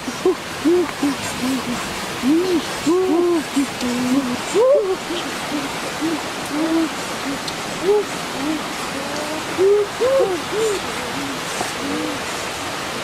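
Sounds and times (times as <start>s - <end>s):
forest stream and small waterfall: 0.0s - 13.0s
hooting calls: 0.1s - 12.3s.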